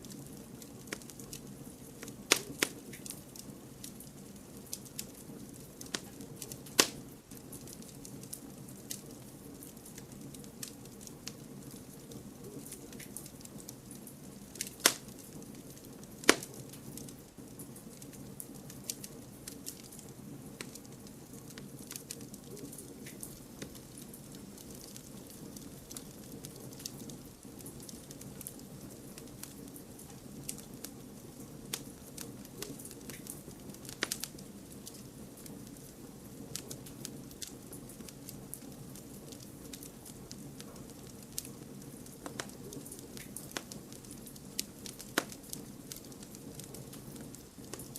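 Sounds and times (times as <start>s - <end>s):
campfire burning: 0.0s - 47.9s
fire crackles and pops: 0.0s - 47.9s.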